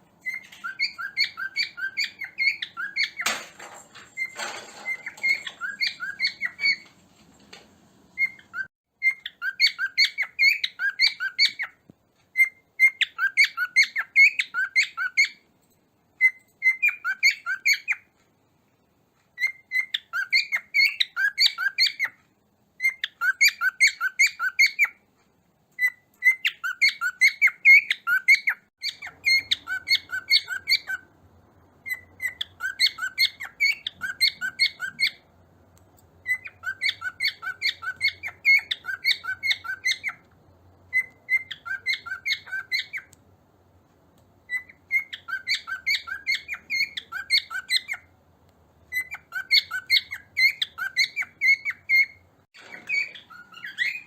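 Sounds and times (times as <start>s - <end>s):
cockatiels chirping: 0.2s - 6.9s, 8.2s - 15.5s, 16.2s - 18.2s, 19.4s - 22.2s, 22.8s - 25.0s, 25.8s - 31.1s, 31.8s - 35.3s, 36.2s - 43.2s, 44.5s - 48.1s, 48.8s - 54.0s.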